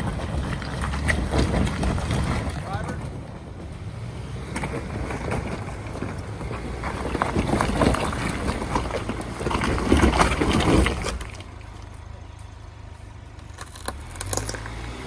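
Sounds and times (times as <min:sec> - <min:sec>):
rocks crunching under tyres: 0:00.0 - 0:15.0
truck engine under load: 0:00.0 - 0:15.0.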